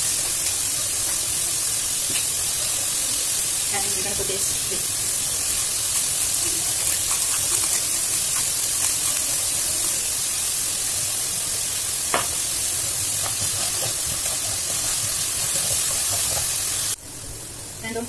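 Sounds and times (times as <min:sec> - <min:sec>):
spatula stirring vegetables: 0:00.0 - 0:17.0
vegetables sizzling in oil: 0:00.0 - 0:18.0.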